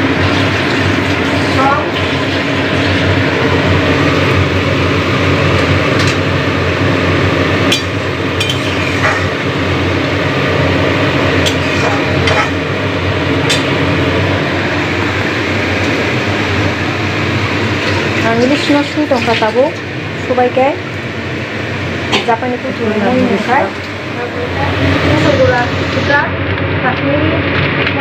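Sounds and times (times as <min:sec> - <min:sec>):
loud rushing background noise: 0:00.0 - 0:19.0, 0:19.8 - 0:27.3.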